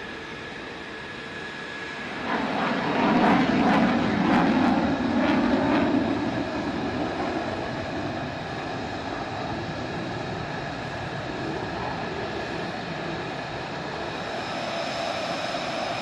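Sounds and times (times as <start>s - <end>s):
high turbine whine: 0.0s - 16.0s
jet engines rushing: 0.0s - 16.0s.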